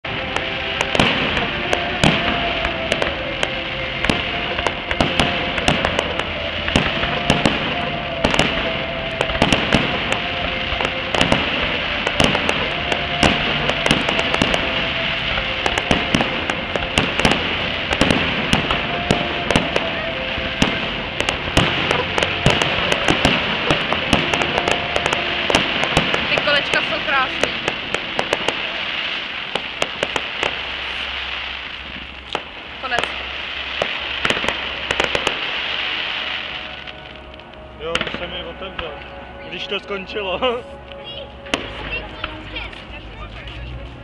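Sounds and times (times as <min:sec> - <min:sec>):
rumble of firework barrage: 0:00.0 - 0:39.0, 0:41.4 - 0:44.0
fireworks bursting with bangs: 0:00.0 - 0:44.0.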